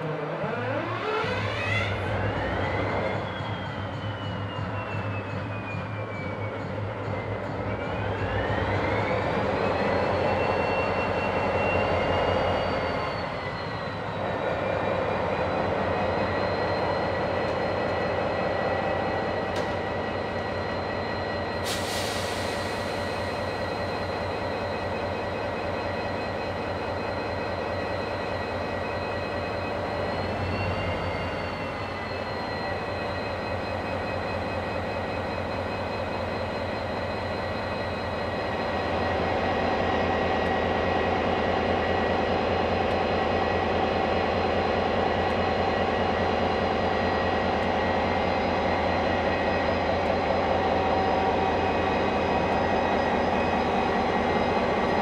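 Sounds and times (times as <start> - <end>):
diesel locomotive engine whining: 0.0 - 55.0.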